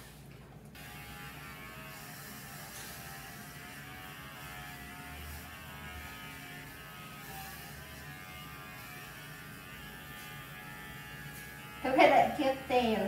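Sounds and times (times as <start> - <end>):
electric clippers humming: 0.7 - 13.0.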